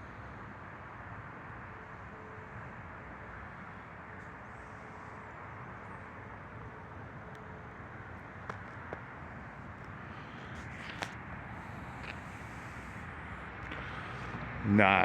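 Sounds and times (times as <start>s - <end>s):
outdoor background rush: 0.0s - 15.0s.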